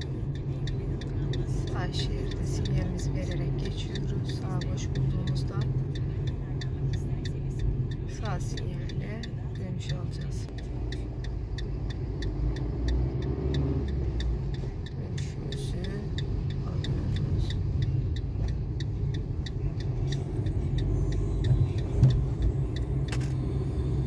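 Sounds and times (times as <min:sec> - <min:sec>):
car engine and road rumble: 0:00.0 - 0:24.0
turn signal ticking: 0:00.0 - 0:24.0.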